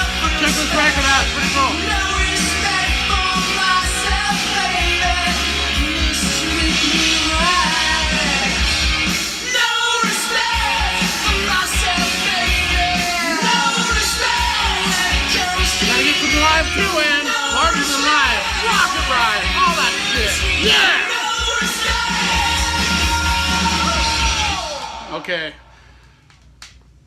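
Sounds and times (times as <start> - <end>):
drum and bass beat: 0.0 - 25.0
rock song with singer: 0.0 - 26.2.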